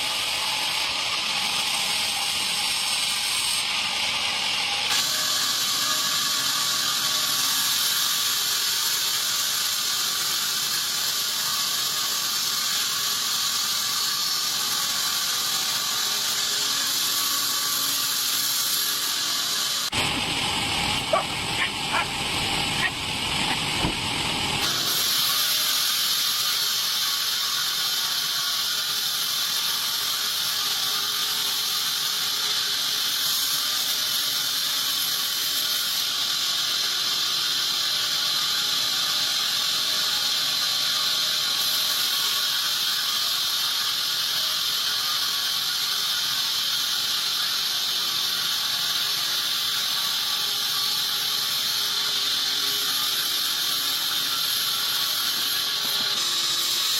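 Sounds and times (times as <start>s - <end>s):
band saw cutting log: 0.0s - 56.9s.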